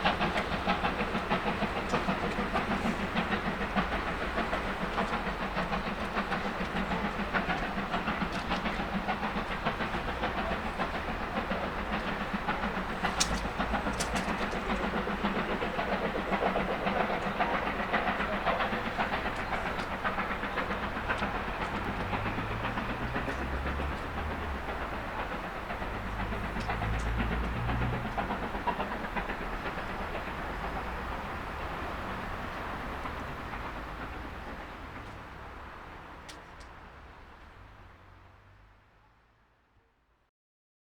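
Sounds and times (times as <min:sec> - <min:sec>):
train wheels clattering on rails: 0:00.0 - 0:38.6.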